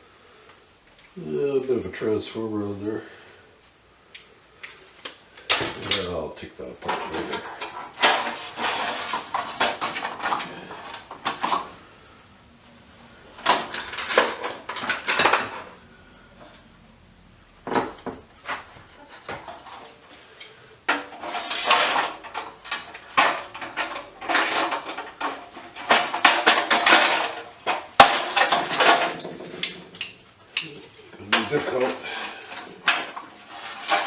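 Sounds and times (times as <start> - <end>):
metal scrap parts clattering: 5.5 - 12.2, 12.8 - 17.0, 17.6 - 34.0.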